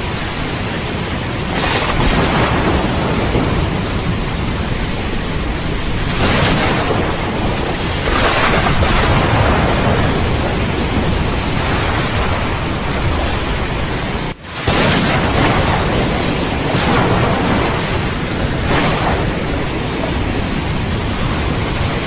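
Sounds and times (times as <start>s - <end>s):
heavy rain: 0.0s - 22.0s
rolling thunder: 0.0s - 22.0s.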